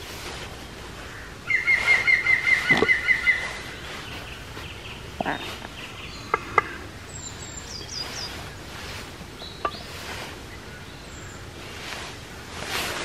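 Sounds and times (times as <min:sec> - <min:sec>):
outdoor hiss: 0:00.0 - 0:13.0
small birds chirping: 0:00.0 - 0:13.0.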